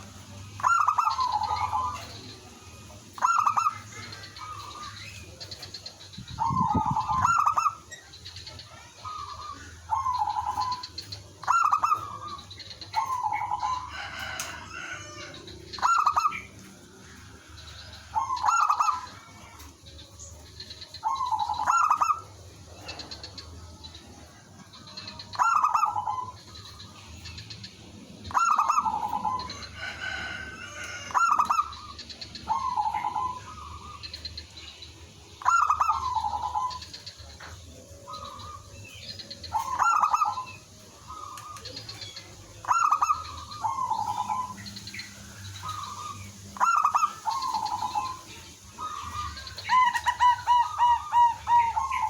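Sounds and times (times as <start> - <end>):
doves cooing: 0.0 - 52.0.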